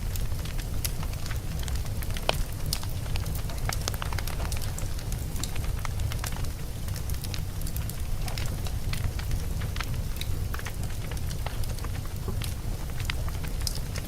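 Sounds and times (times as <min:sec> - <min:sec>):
fire crackling and popping: 0:00.0 - 0:14.0
wood fire burning: 0:00.0 - 0:14.0.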